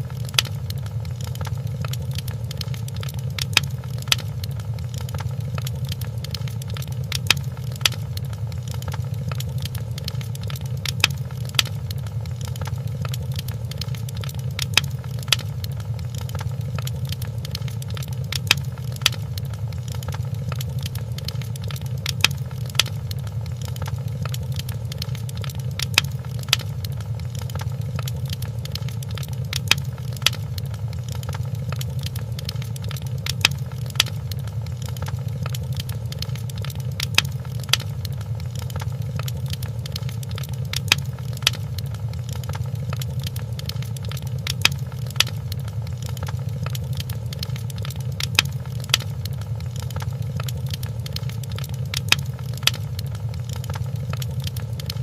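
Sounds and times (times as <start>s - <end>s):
sharp pops from fire: 0.0s - 55.0s
wood fire crackling: 0.0s - 55.0s.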